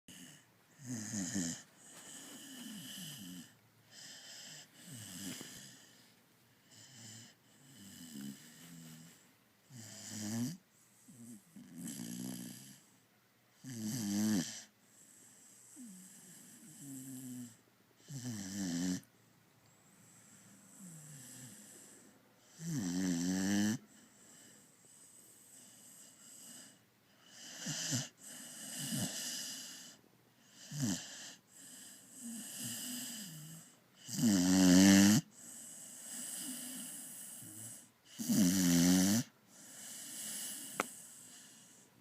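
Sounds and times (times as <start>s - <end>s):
dog snoring: 0.1s - 12.9s, 13.6s - 19.1s, 20.1s - 41.8s.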